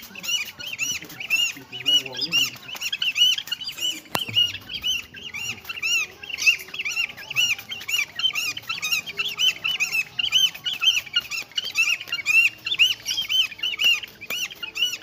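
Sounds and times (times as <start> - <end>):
cormorant squeaky calls: 0.0 - 15.0
wings flapping: 0.0 - 15.0.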